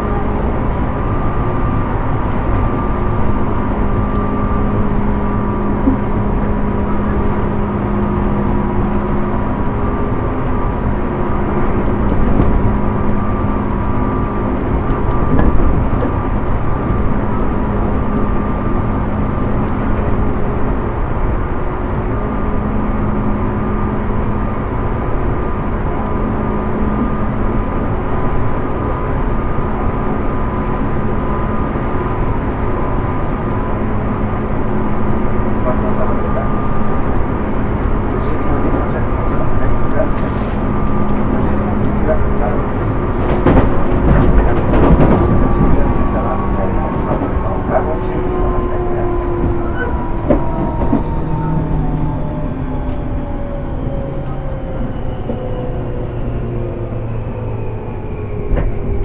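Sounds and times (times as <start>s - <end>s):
constant hum: 0.0s - 59.0s
train wheels rumbling: 0.0s - 59.0s.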